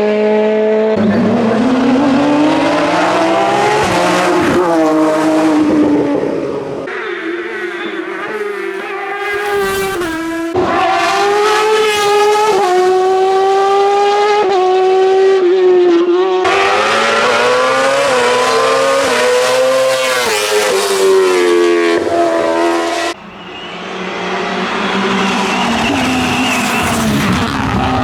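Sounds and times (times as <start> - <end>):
race car engines changing gear: 0.9 - 15.4, 16.4 - 28.0.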